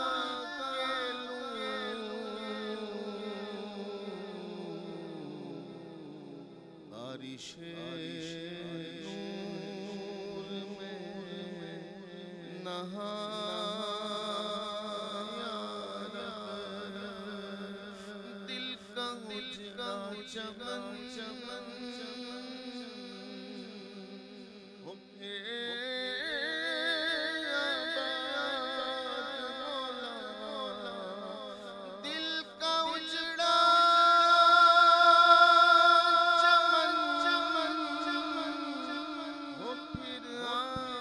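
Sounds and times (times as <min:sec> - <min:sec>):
man chanting into microphone: 0:00.0 - 0:41.0.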